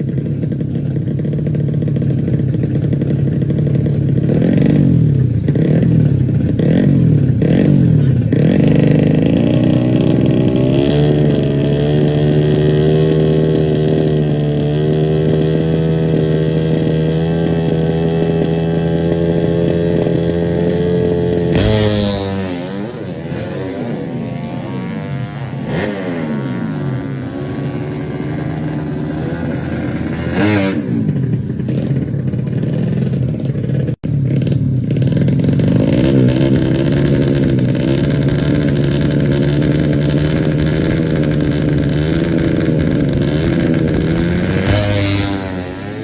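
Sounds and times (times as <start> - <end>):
motorcycles revving hard: 0.0 - 46.0.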